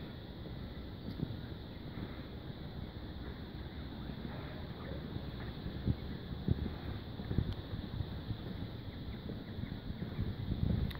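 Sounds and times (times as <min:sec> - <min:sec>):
wind rumble on microphone: 0:00.0 - 0:10.9.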